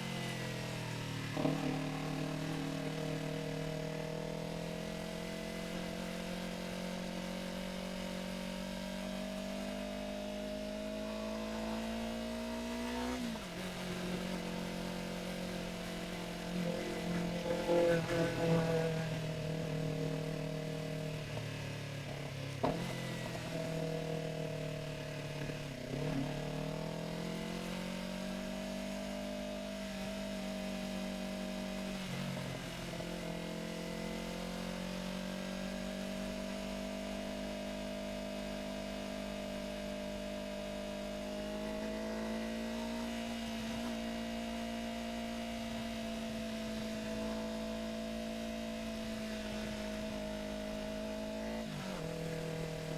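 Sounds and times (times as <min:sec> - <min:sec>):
motorcycle engine shifting gears: 0:00.0 - 0:52.9.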